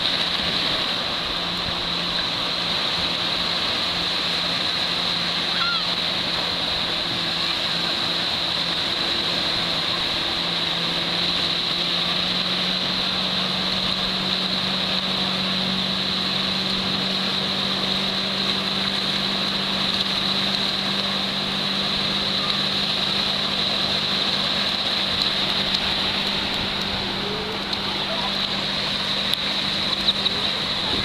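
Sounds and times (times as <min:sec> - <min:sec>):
small waves breaking on shore: 0:00.0 - 0:31.0.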